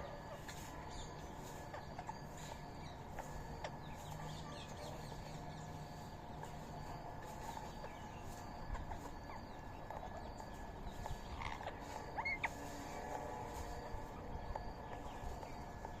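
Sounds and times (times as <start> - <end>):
birds chirping and calling: 0.0 - 16.0
steady low hum: 0.0 - 16.0.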